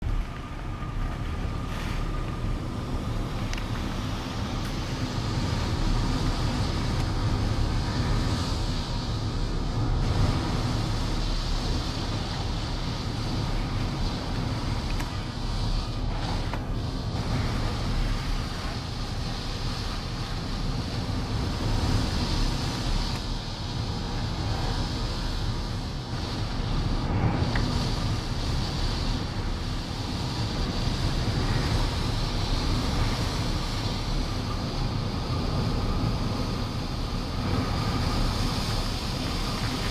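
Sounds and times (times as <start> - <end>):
strong wind blowing: 0.0 - 39.9.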